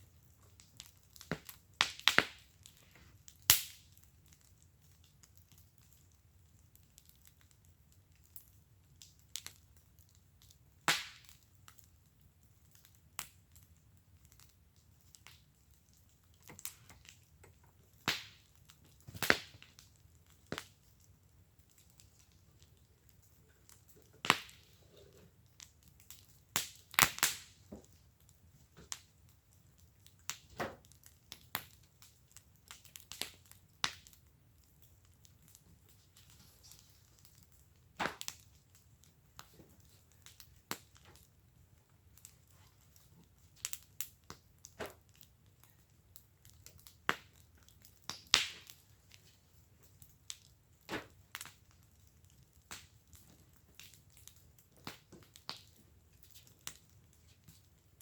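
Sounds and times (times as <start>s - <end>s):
faint steady hiss: 0.0s - 58.0s
wood fire crackling and popping: 0.0s - 58.0s.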